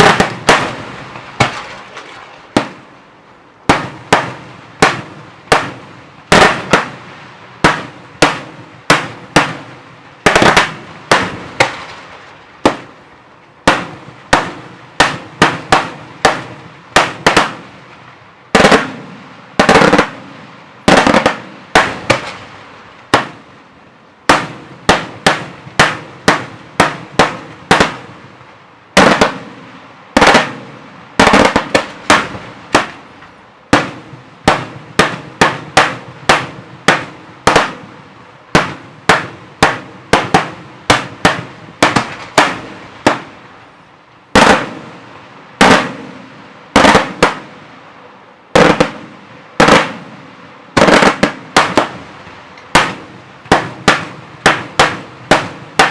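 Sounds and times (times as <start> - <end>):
fireworks bangs echoing: 0.0 - 3.0, 3.6 - 47.8, 48.6 - 55.9.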